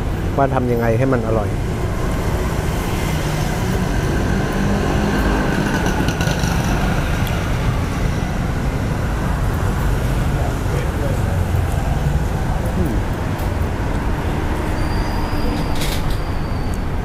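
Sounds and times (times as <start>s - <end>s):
traffic on a wet street: 0.0s - 17.0s.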